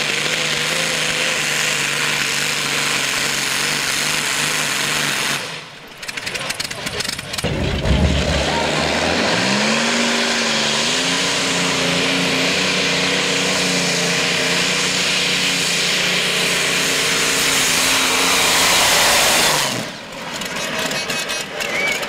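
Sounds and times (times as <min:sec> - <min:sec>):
pulling tractor engine at full throttle: 0:00.0 - 0:22.0.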